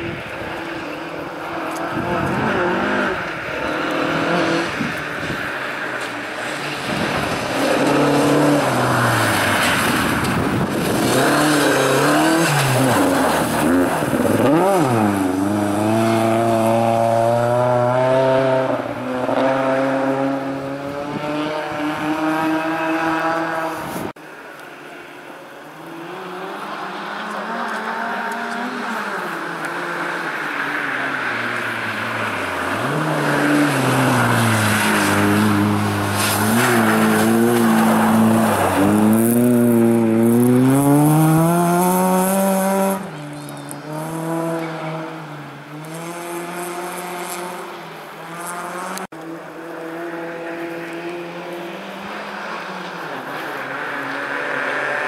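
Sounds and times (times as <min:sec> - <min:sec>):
rally car engine revving: 0:00.6 - 0:24.2, 0:25.9 - 0:55.0.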